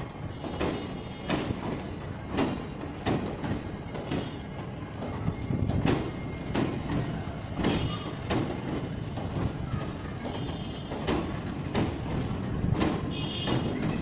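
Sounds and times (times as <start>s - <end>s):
train coaches rumbling past: 0.0s - 14.0s
wheels clacking over rail joints: 0.0s - 14.0s.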